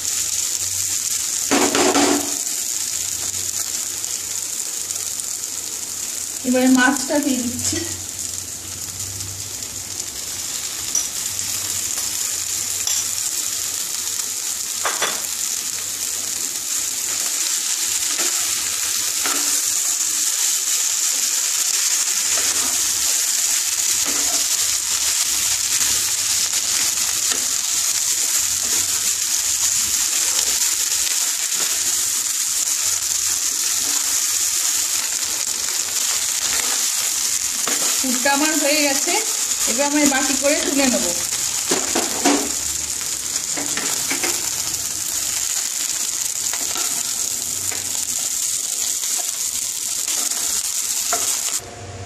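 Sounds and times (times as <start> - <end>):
food sizzling in pan: 0.0 - 52.0.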